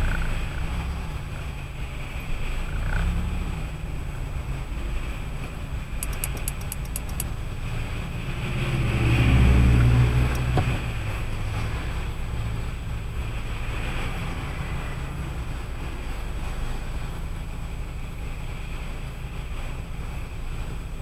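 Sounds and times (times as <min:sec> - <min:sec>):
car engine hum: 0:00.0 - 0:21.0.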